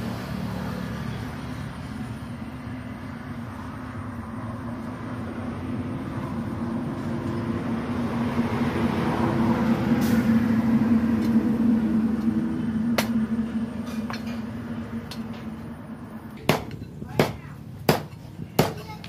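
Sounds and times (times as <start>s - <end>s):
heavy vehicle passing: 0.0s - 16.5s.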